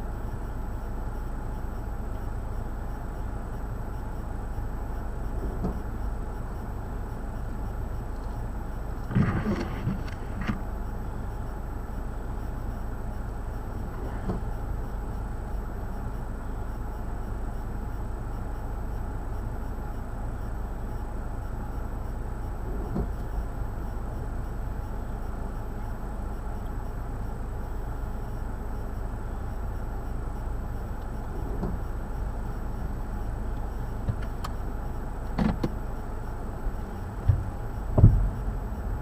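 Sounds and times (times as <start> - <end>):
vehicle motor rumbling: 0.0 - 39.0.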